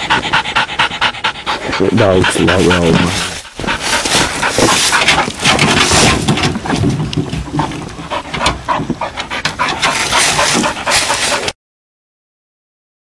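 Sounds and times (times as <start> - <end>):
dog panting hard: 0.0 - 11.6.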